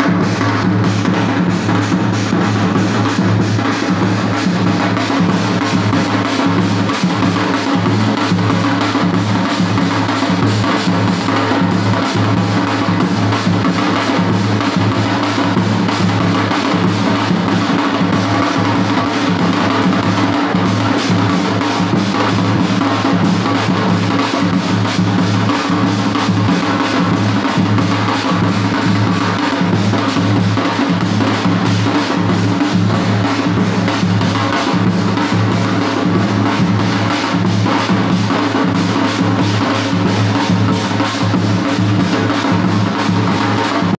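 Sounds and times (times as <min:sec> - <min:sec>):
loud dense drumming: 0:00.0 - 0:44.0.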